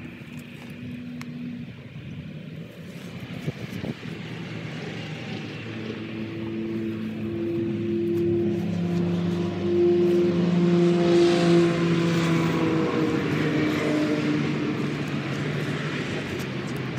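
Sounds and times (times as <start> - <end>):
low engine drone: 0.0 - 16.9
steady rumble: 0.0 - 16.9.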